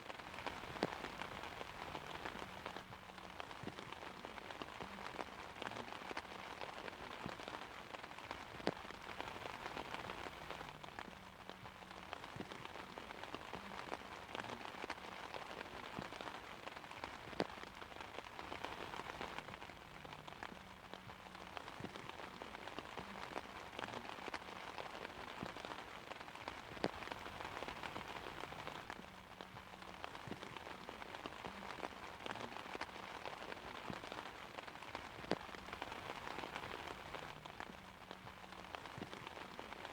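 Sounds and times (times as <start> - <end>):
rain pattering on umbrella: 0.0 - 39.9
raindrops ticking on fabric: 0.0 - 39.9.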